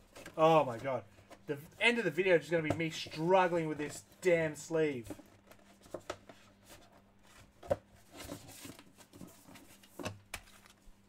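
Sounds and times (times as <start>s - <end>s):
soft plastic rustle: 0.0s - 11.0s.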